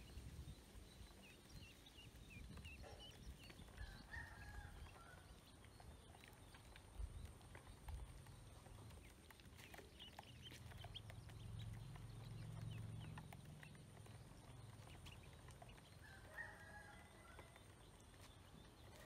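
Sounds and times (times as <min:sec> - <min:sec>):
ducklings pecking feed from plastic: 0:00.0 - 0:19.0
ducklings peeping: 0:00.0 - 0:19.0.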